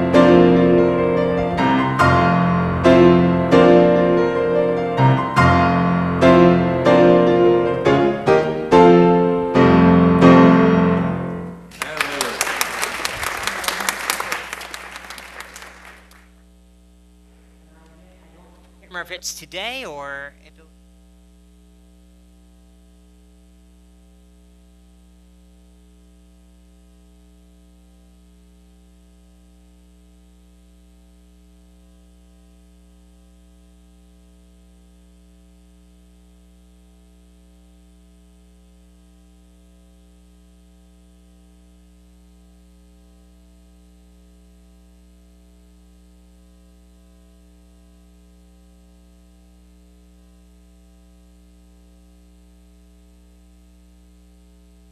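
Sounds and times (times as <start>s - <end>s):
electrical mains hum with buzz: 0.0s - 54.9s.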